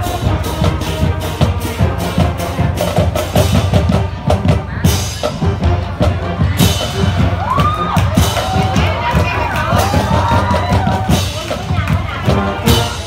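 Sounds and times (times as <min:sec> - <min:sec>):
drum strokes: 0:00.0 - 0:13.0
marching band brass: 0:00.0 - 0:13.0.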